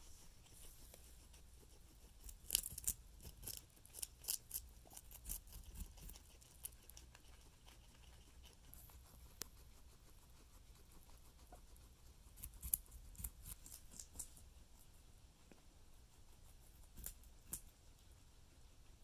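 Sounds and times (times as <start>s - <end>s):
guinea pig crunching carrot: 0.1s - 19.0s.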